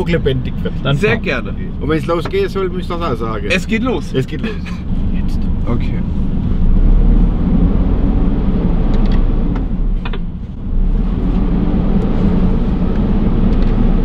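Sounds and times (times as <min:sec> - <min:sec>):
diesel truck engine drone: 0:00.0 - 0:14.0.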